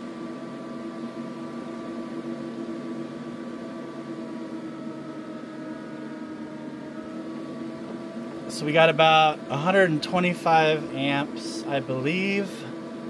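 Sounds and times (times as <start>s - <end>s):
battery load tester whir and hum: 0.0s - 13.0s.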